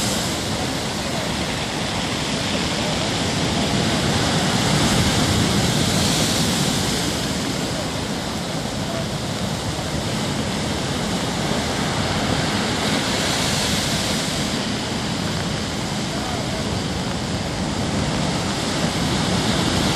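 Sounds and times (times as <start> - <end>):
waves breaking against seawall: 0.0 - 19.9.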